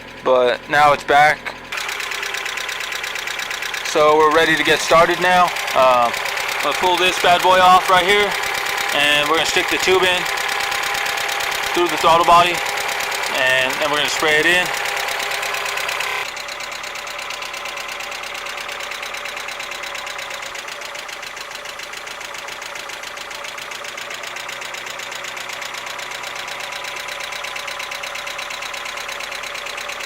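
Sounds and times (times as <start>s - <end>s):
car engine idling: 0.0s - 30.0s
rapid engine ticking: 0.0s - 30.0s.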